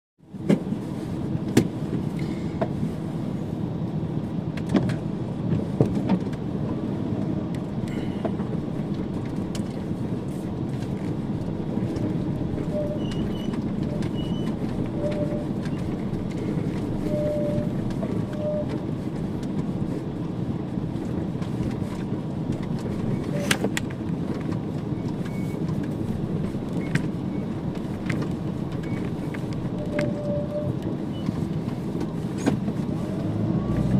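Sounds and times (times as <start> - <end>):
van engine and road noise: 0.2 - 33.9.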